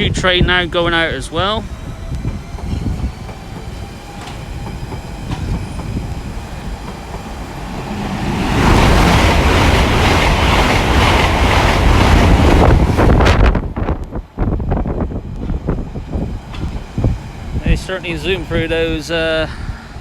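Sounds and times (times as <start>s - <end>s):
train wheel and rail noise: 0.0s - 20.0s.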